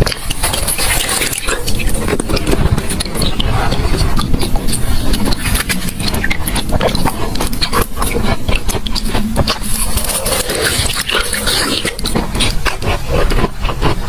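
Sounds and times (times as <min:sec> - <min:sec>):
ice being chewed: 0:00.0 - 0:14.0.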